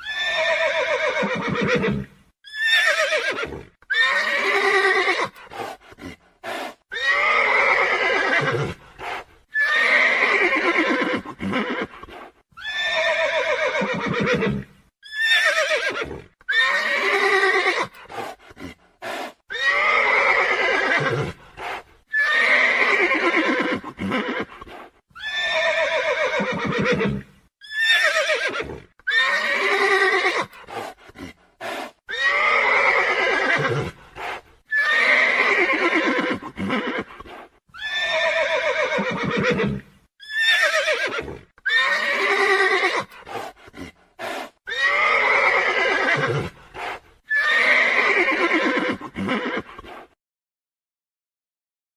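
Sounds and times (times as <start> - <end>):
horse whinnying: 0.0 - 18.0, 19.0 - 31.0, 31.6 - 50.2.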